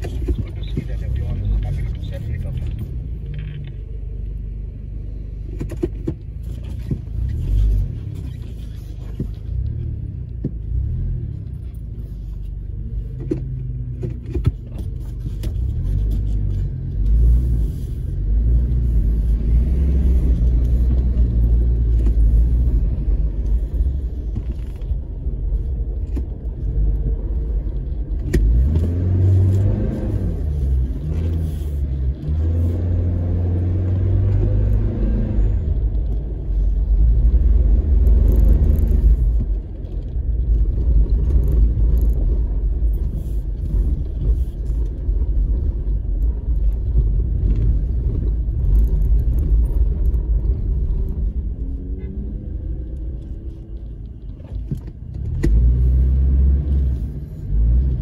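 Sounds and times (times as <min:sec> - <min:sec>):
engine rumbling inside cabin: 0:00.0 - 0:58.0.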